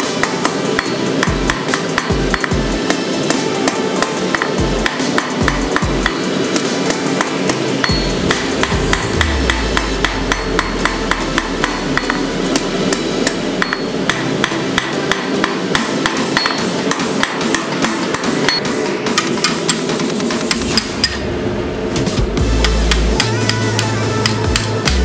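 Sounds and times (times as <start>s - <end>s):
hammer blows on anvil: 0.0s - 21.2s, 22.4s - 25.0s.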